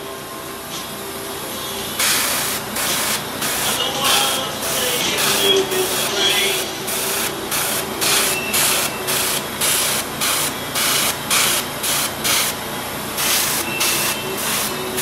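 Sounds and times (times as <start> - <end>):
airbrush spraying in hissing bursts: 2.0 - 15.0.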